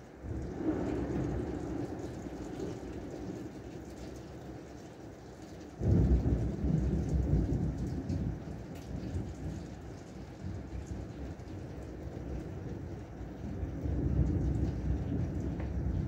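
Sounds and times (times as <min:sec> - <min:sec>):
heavy rain falling: 0:00.0 - 0:16.0
thunderclap: 0:00.2 - 0:04.7, 0:05.8 - 0:16.0.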